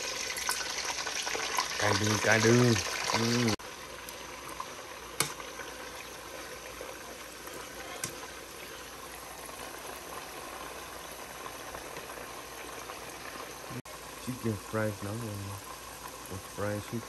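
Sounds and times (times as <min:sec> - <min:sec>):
chicken frying in oil: 0:00.0 - 0:17.0.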